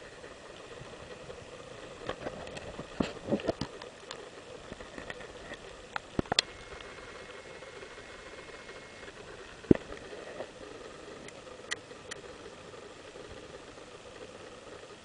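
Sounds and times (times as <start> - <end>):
surf hiss: 0.0 - 15.0
wind: 0.0 - 15.0.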